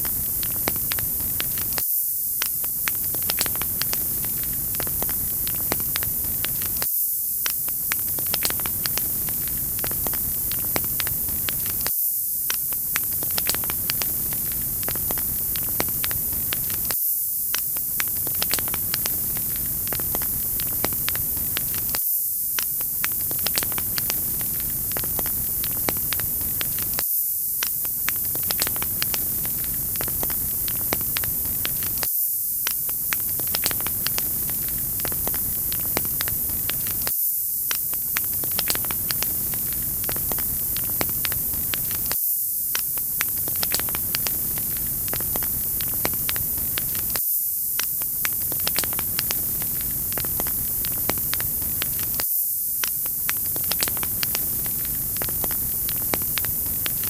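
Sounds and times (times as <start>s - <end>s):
wood fire crackling: 0.0s - 1.8s, 2.4s - 11.9s, 12.5s - 22.0s, 22.6s - 27.0s, 27.7s - 32.1s, 32.7s - 37.1s, 37.7s - 42.2s, 42.8s - 47.2s, 48.0s - 52.2s, 52.8s - 57.0s.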